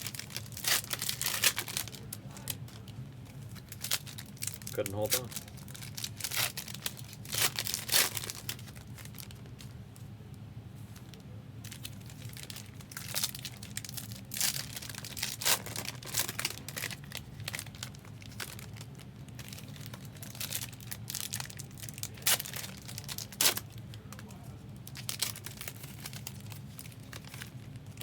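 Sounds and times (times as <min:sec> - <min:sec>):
card packaging crackling: 0:00.0 - 0:09.8, 0:11.7 - 0:28.0
steady low hum: 0:00.0 - 0:28.0.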